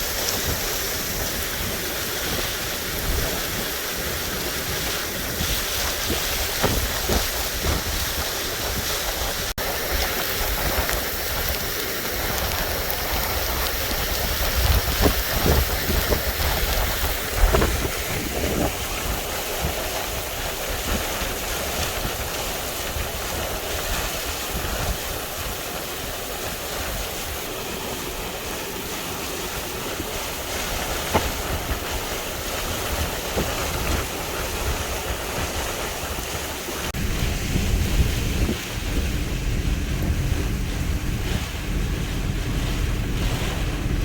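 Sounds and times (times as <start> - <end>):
heavy rain: 0.0 - 44.0
hurricane winds: 0.0 - 44.0
wind rumbling on microphone: 0.0 - 44.0.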